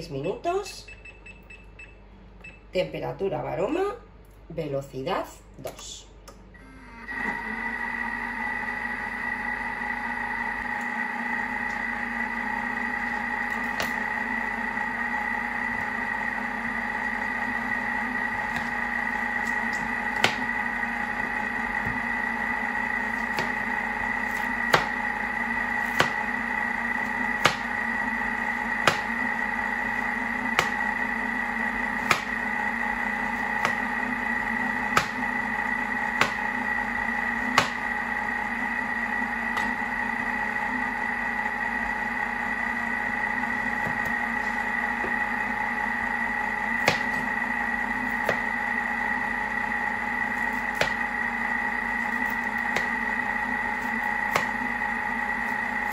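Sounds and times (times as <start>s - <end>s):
food processor humming and whining: 6.3s - 55.9s.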